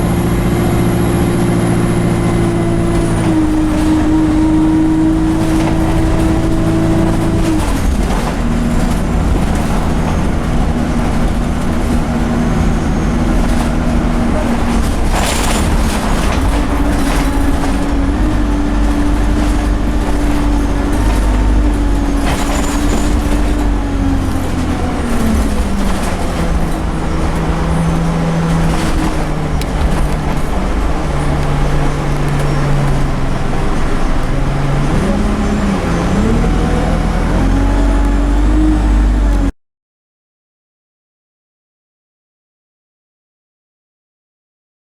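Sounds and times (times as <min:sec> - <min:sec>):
bus engine running: 0:00.0 - 0:39.5
road noise: 0:00.0 - 0:39.5.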